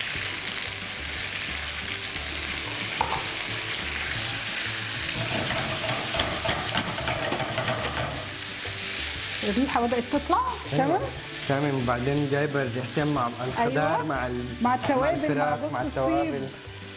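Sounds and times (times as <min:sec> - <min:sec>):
vegetables sizzling in oil: 0:00.0 - 0:16.9.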